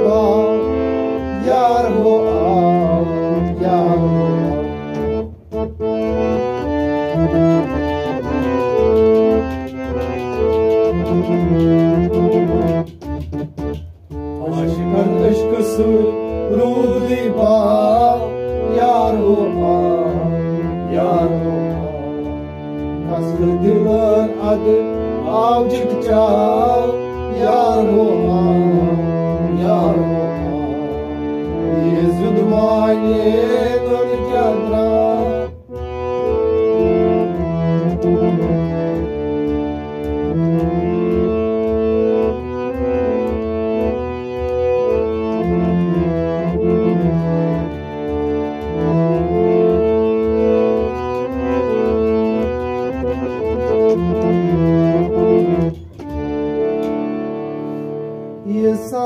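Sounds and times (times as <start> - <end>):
harmonium melody: 0.0 - 59.0.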